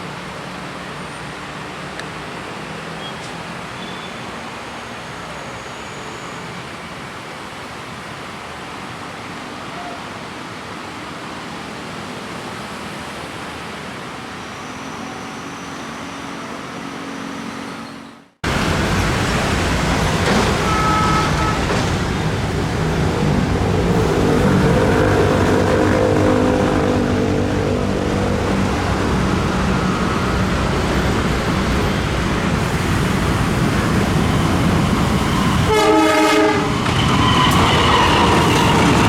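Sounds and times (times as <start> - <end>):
traffic noise: 0.0 - 39.0.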